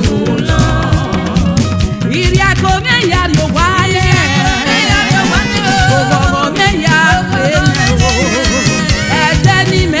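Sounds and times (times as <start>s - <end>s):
band music: 0.0s - 10.0s
person singing: 0.0s - 10.0s
steady drum beat: 0.0s - 10.0s.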